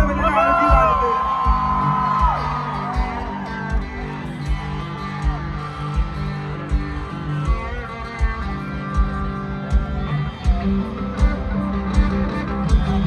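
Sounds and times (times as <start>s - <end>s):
kick drum beat: 0.0s - 13.0s
strummed guitars: 0.0s - 13.0s.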